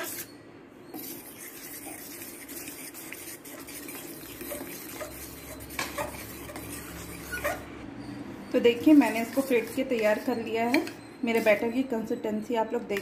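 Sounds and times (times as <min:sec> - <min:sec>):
fork scraping in a metal bowl: 0:00.0 - 0:07.7, 0:08.6 - 0:11.8.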